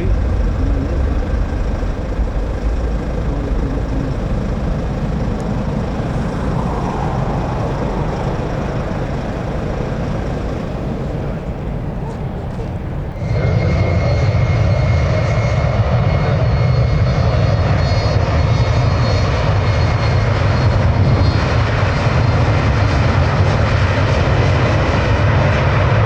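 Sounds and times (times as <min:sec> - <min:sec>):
distant jet airliner rumble: 0:00.0 - 0:26.0.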